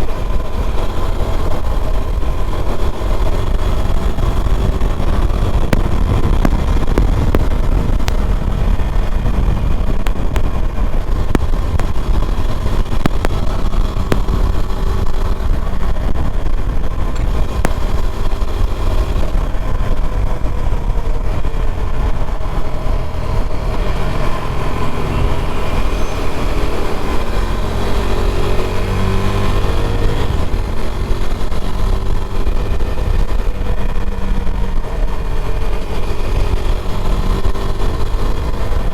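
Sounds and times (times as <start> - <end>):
heavy low rumble: 0.0 - 38.9
motorcycle engine running: 0.0 - 38.9.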